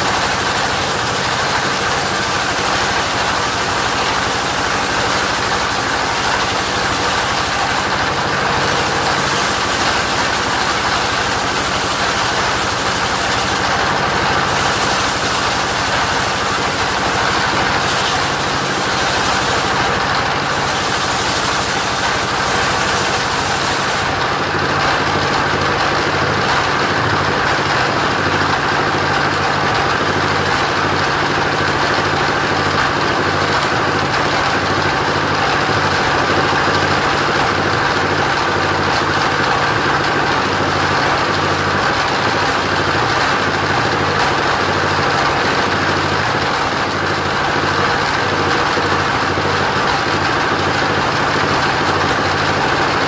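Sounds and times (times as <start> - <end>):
wood saw engine running: 0.0 - 53.0.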